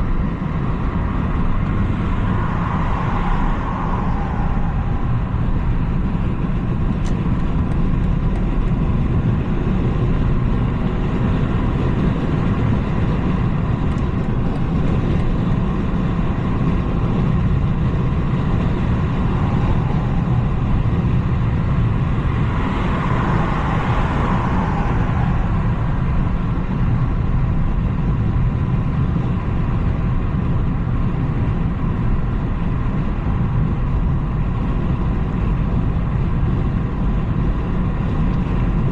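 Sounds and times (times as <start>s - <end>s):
car engine driving steadily: 0.0s - 38.9s.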